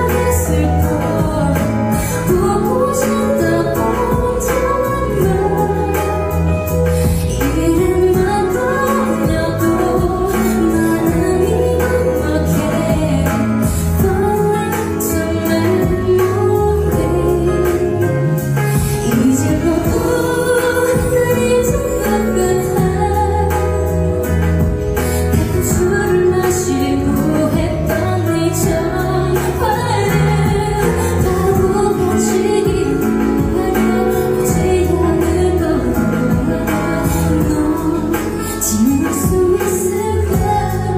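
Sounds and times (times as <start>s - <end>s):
backing music with bass and drums: 0.0s - 40.9s
band accompaniment: 0.0s - 40.9s
woman singing a slow ballad: 0.0s - 40.9s.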